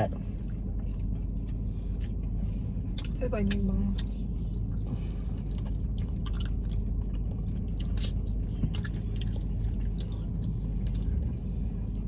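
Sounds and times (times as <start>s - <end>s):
steady low rumble: 0.0s - 12.0s
person chewing food: 0.3s - 3.2s, 4.0s - 12.0s.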